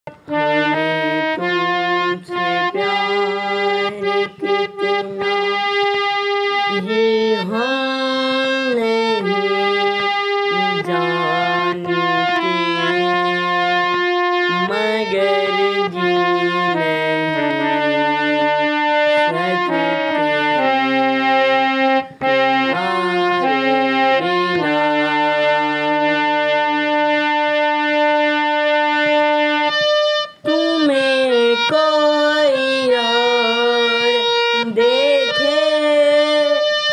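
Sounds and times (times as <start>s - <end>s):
harmonium melody: 0.0s - 36.9s
boy singing: 0.1s - 25.9s, 30.3s - 36.9s.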